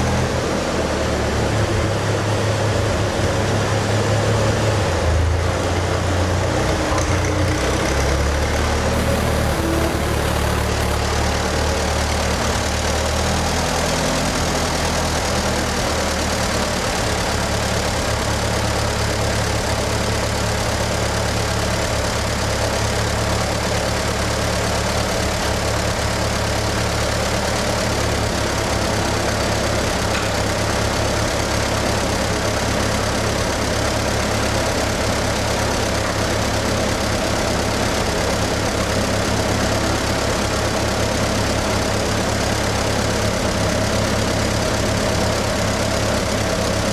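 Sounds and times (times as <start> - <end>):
tractor engine idling: 8.9 - 46.9.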